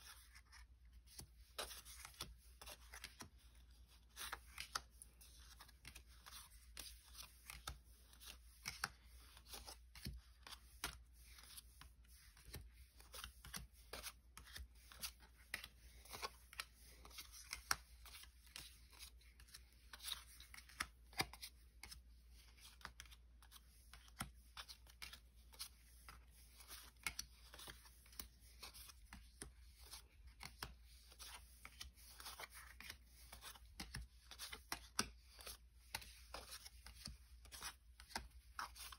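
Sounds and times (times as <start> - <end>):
cards and packaging rustling: 0.0 - 38.9.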